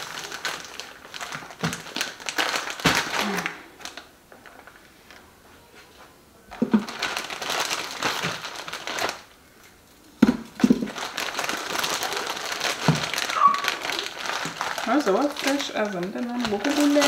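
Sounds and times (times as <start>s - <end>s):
packaging crinkling: 0.0s - 5.2s, 6.5s - 9.4s, 10.2s - 17.0s.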